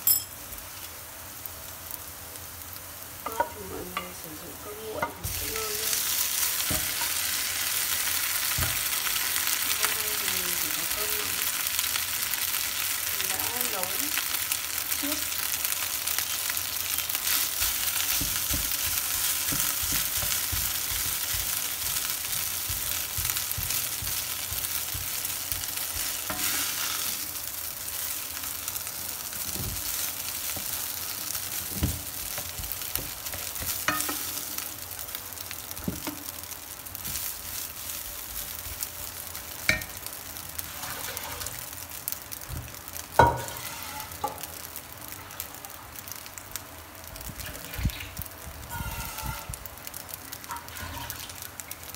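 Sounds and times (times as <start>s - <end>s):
rice sizzling in frying pan: 0.0s - 51.9s.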